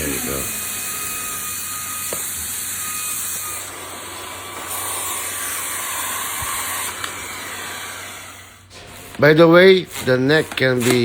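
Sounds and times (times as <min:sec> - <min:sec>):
stick vacuum motor whine: 0:00.0 - 0:11.0.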